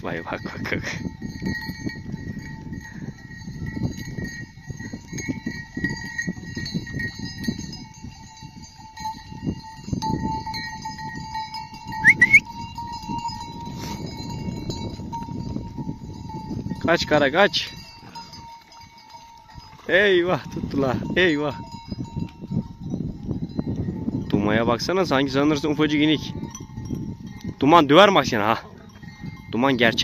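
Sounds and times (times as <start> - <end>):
livestock bells ringing: 0.0 - 30.0.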